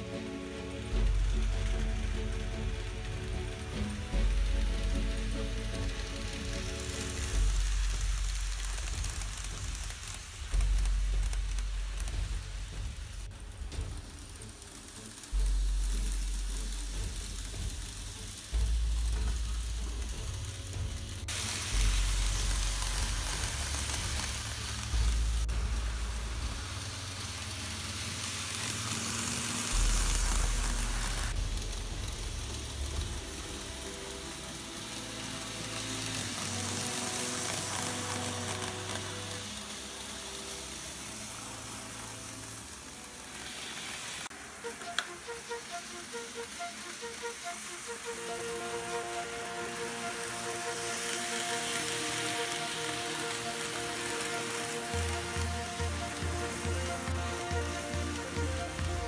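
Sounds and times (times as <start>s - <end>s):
background music with deep bass: 0.0s - 59.0s
steady hiss: 0.0s - 59.0s.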